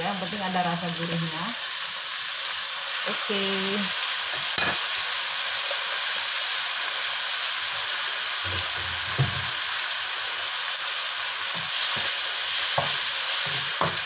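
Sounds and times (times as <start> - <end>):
oil sizzling in a wok: 0.0 - 14.0.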